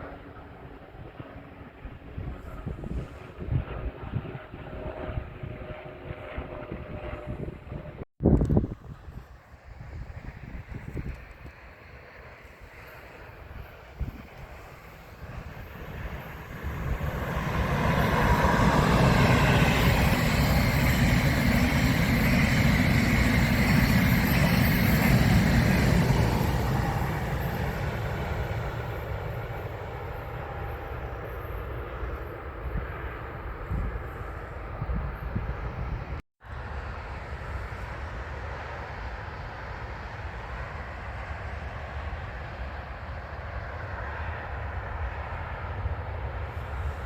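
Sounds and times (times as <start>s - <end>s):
train passing by: 8.7s - 47.0s.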